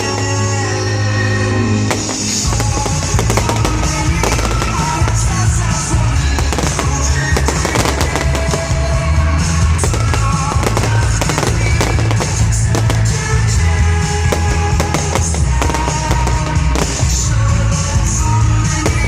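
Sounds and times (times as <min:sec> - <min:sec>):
fireworks bursting and crackling: 0:00.0 - 0:01.0, 0:01.7 - 0:19.0
show music with heavy bass: 0:00.0 - 0:19.0.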